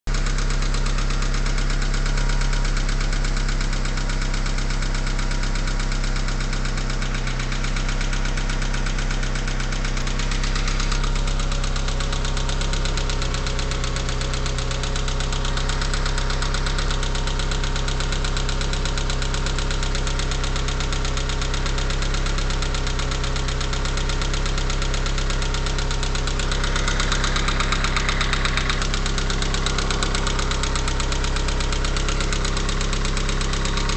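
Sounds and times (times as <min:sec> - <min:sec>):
car engine idling with knocking tick: 0:00.1 - 0:33.9.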